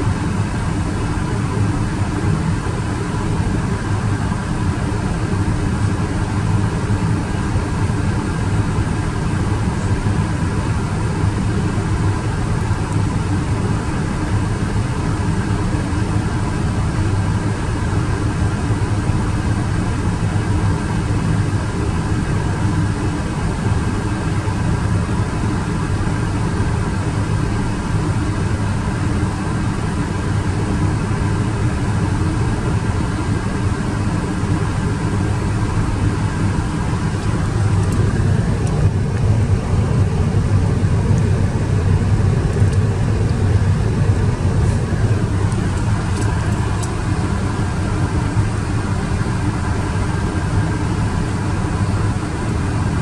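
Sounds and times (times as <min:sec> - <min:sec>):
airplane cabin rumble: 0:00.0 - 0:53.0
faint steady whine: 0:00.0 - 0:53.0.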